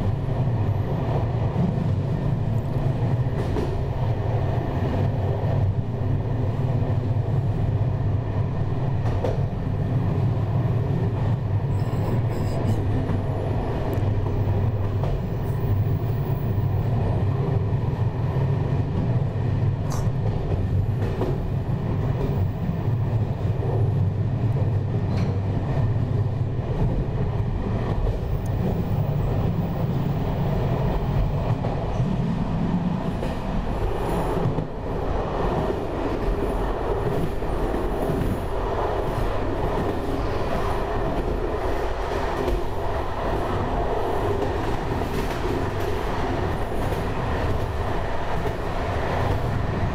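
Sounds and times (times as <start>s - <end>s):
electric train rumbling: 0.0s - 49.9s.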